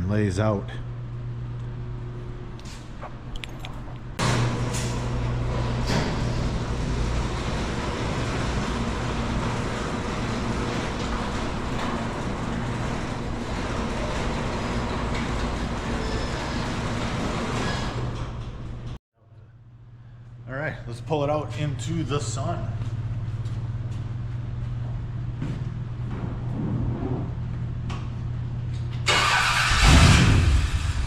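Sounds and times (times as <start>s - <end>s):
steady low hum: 0.0s - 15.9s, 18.1s - 28.9s.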